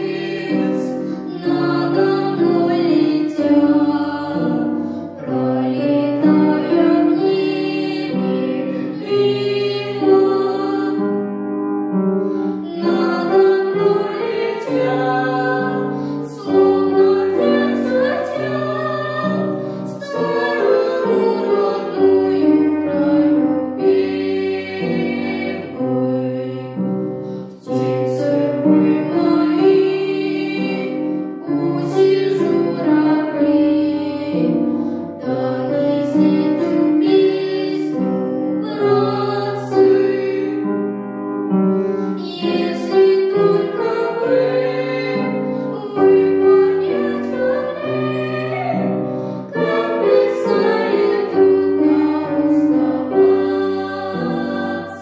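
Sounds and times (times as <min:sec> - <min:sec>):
children singing: 0:00.0 - 0:11.2, 0:12.5 - 0:26.8, 0:27.5 - 0:40.7, 0:42.1 - 0:55.0
piano chords: 0:00.0 - 0:55.0.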